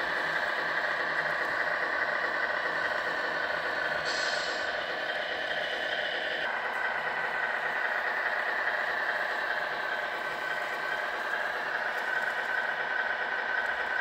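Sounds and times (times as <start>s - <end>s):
toy mixer truck mechanical whine: 0.0s - 14.0s.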